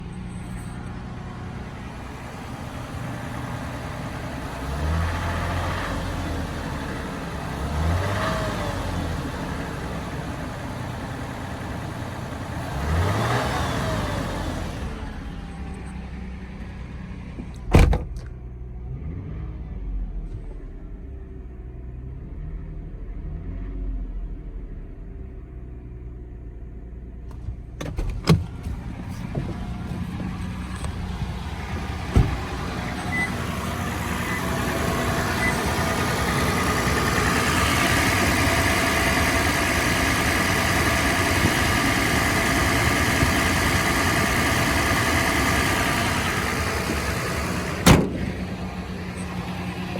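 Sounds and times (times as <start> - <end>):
engine rattle: 0.0 - 18.7, 27.0 - 49.9
car engine running: 0.0 - 19.2, 24.0 - 49.9.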